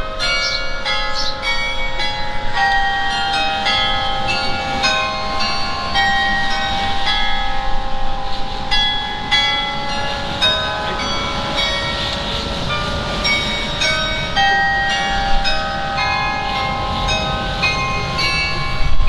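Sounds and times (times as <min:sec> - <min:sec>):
carillon bells playing: 0:00.0 - 0:19.0.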